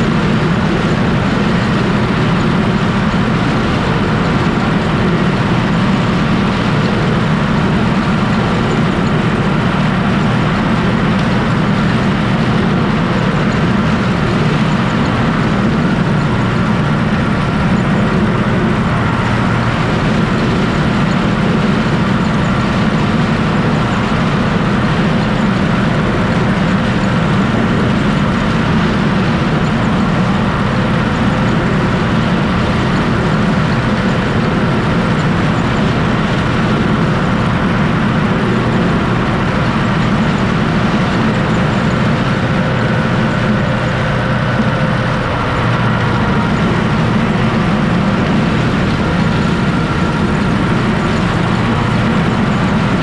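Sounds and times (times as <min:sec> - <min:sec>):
corn picker working: 0:00.0 - 0:53.0
tractor diesel engine running: 0:00.0 - 0:53.0.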